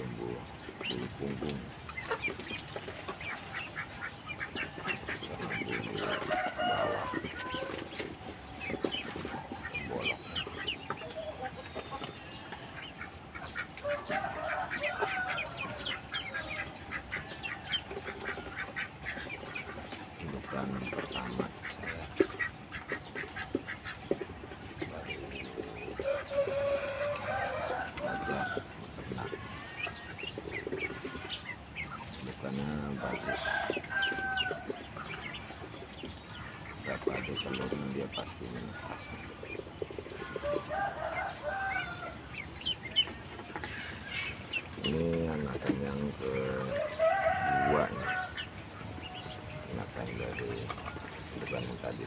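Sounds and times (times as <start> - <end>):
ducklings peeping: 0.0 - 52.0
fowl calls: 0.0 - 52.0.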